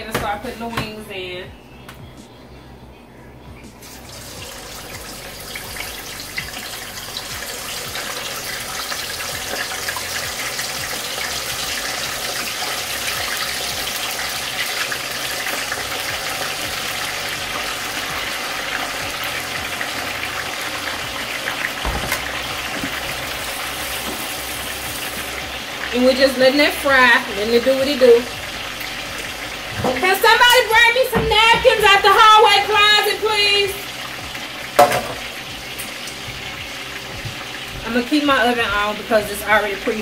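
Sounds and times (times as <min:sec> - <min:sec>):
chicken deep-frying in oil: 0:03.8 - 0:40.0.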